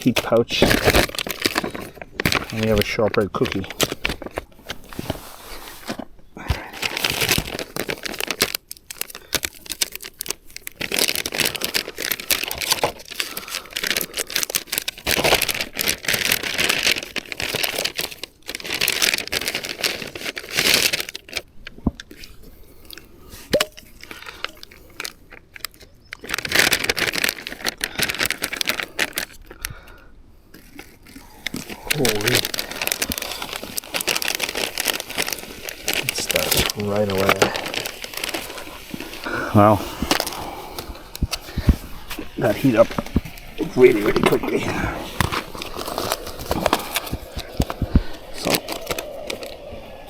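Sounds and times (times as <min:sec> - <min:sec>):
plastic pouches crinkling and tearing: 0:00.0 - 0:50.0.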